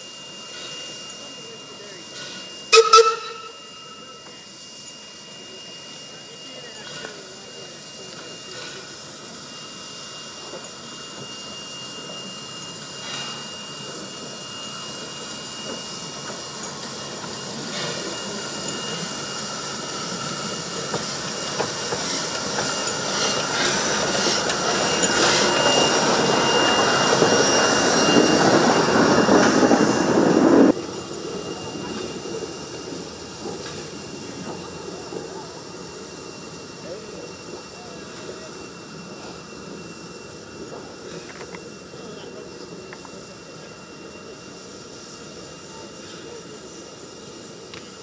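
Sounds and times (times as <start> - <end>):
steam hissing: 0.0 - 48.0
steam locomotive passing: 0.0 - 48.0.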